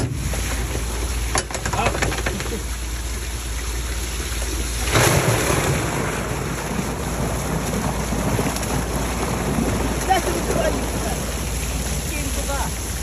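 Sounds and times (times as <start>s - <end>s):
water gushing from a tank: 0.0s - 13.0s.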